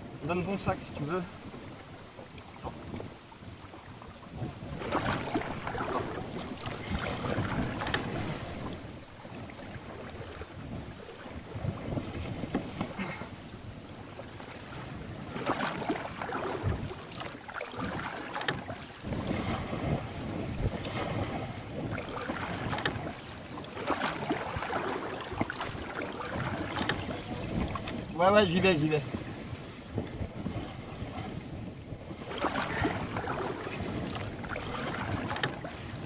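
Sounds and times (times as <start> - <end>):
river water splashing around canoe: 0.0 - 36.0
wind on microphone: 0.0 - 36.0.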